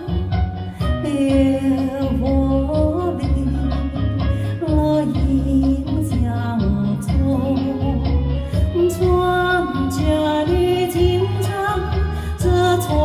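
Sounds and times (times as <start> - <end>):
melody with slides and wavering notes: 0.0 - 13.0
repeating bass beat: 0.0 - 13.0.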